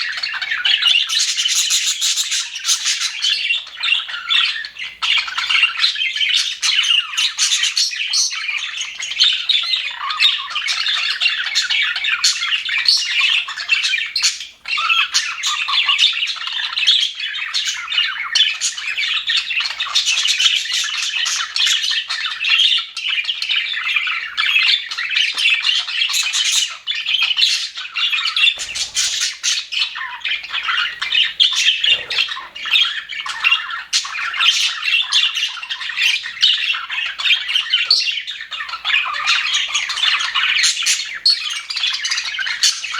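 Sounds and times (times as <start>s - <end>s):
flock of budgerigars chattering: 0.0s - 42.9s.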